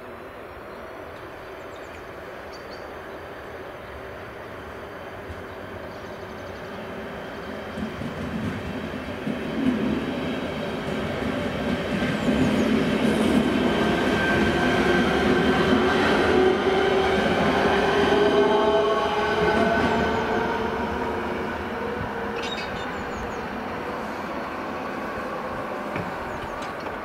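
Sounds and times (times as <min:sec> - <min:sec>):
passing passenger train: 0:00.0 - 0:27.0
train wheels rolling: 0:04.8 - 0:27.0.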